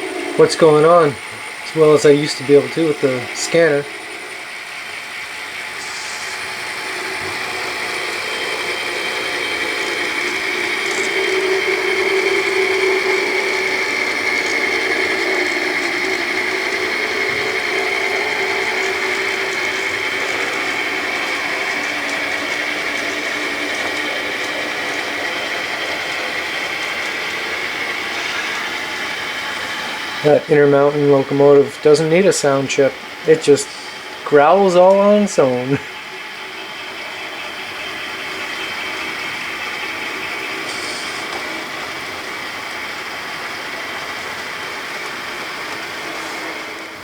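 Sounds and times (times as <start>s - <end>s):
model train motor growling: 0.0s - 47.0s.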